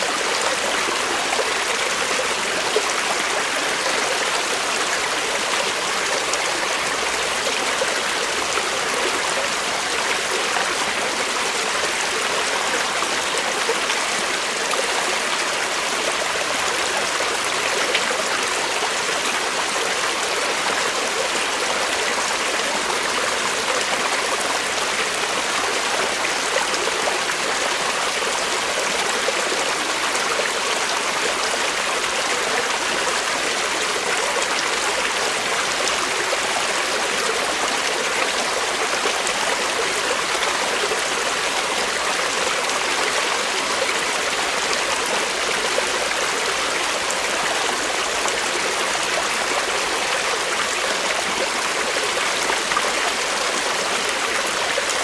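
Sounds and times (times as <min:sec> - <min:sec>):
creek water babbling over stones: 0:00.0 - 0:55.0.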